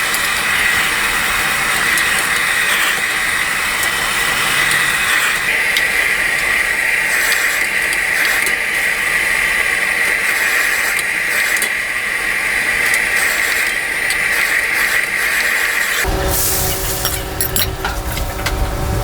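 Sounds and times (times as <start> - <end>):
food frying in a pan: 0.0 - 19.0.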